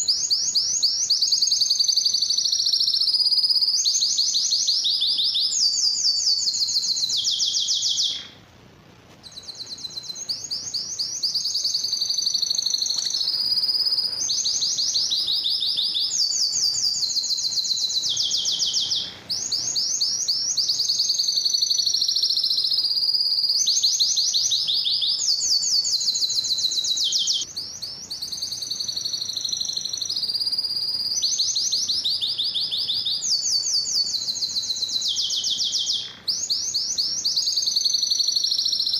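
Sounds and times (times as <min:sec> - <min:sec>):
canary singing trills: 0:00.0 - 0:08.5, 0:09.2 - 0:38.9.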